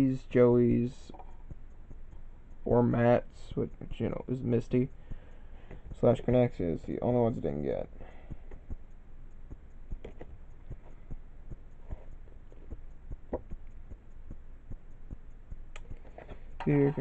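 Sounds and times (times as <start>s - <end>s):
light taps and clicks: 0.0s - 17.0s
low steady hum: 0.0s - 17.0s.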